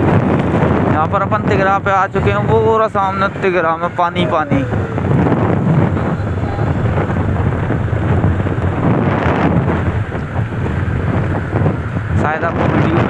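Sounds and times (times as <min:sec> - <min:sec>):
motorcycle running: 0:00.0 - 0:13.0
road noise: 0:00.0 - 0:13.0
wind rushing over microphone: 0:00.0 - 0:13.0.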